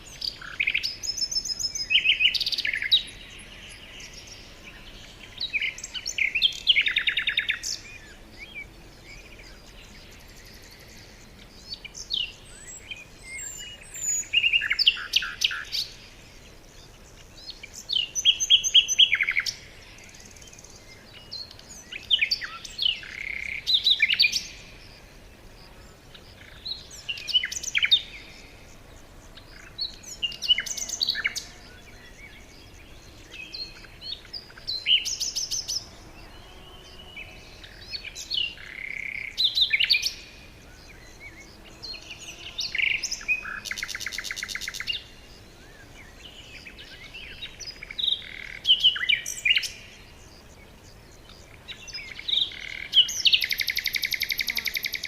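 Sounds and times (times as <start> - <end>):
faint background noise: 0.0 - 55.0
songbirds chirping and trilling: 0.0 - 55.0.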